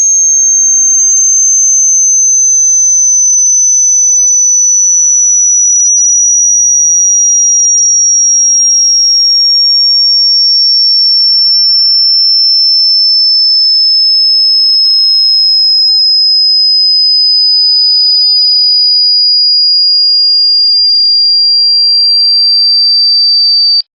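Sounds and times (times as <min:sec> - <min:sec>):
high-pitched electronic tone: 0:00.0 - 0:23.8.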